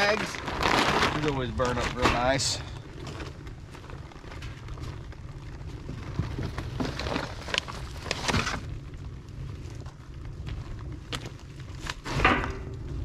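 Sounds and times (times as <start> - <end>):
fire crackling and popping: 0.0 - 13.0
steady low rumble: 0.0 - 13.0.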